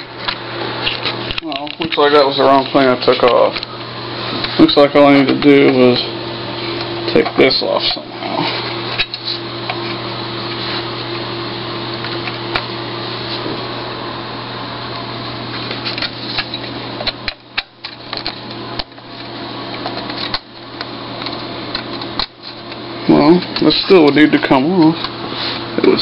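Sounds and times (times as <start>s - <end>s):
mechanical whirring with low hum: 0.0s - 26.0s.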